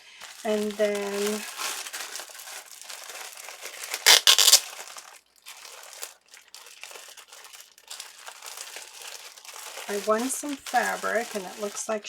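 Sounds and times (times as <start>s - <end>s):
mail packaging crinkling: 0.0s - 12.0s.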